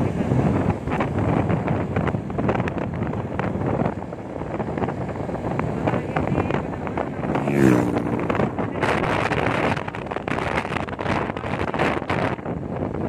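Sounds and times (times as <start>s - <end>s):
motorcycle road noise: 0.0s - 13.0s
wind buffeting microphone: 0.0s - 13.0s.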